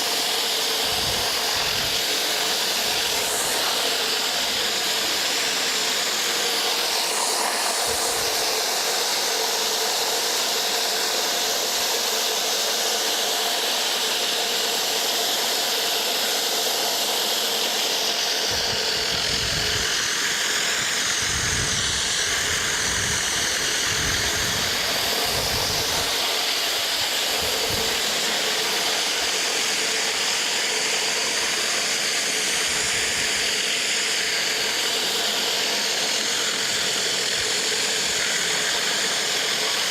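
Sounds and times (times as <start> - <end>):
high-pressure water hissing: 0.0 - 39.9
pressure washer engine drone: 0.0 - 39.9.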